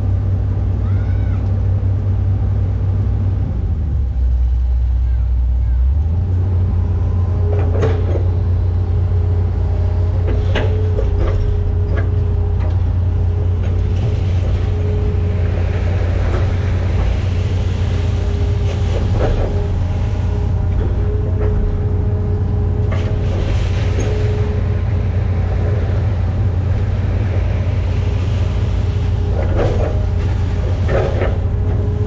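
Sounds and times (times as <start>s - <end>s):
excavator diesel engine droning: 0.0s - 32.0s.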